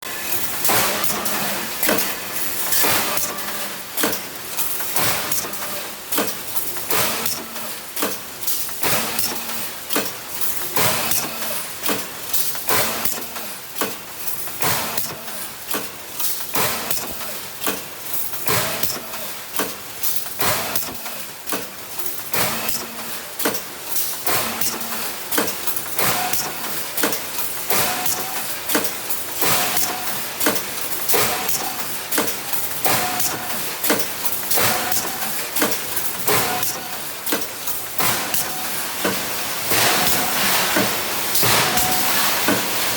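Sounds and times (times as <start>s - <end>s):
welding machine clacking: 0.0s - 42.9s.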